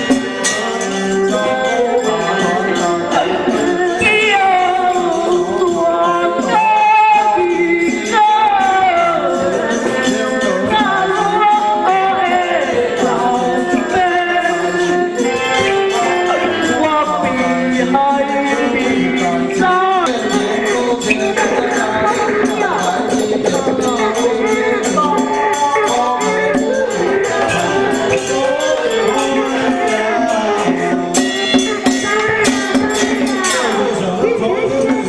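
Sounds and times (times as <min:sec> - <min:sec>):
jingling percussion: 0:00.0 - 0:35.0.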